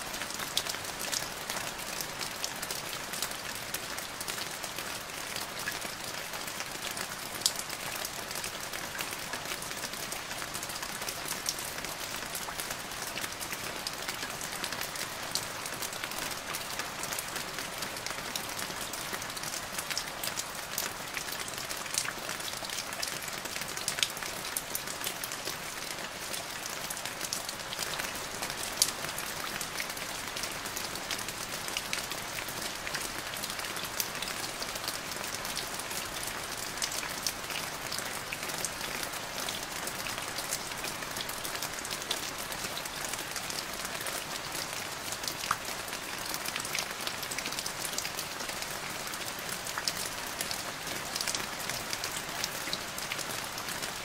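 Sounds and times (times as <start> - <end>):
rain falling into a puddle: 0.0 - 54.0.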